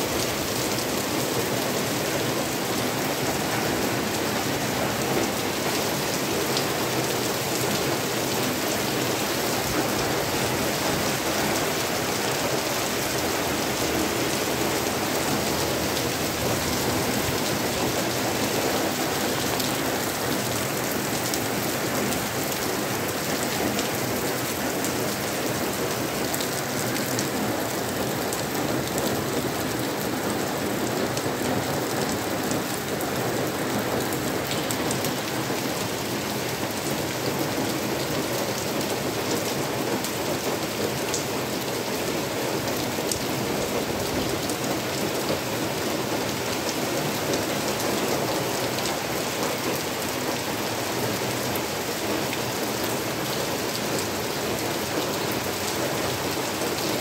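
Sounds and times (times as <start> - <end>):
heavy rain on paving: 0.0 - 57.0.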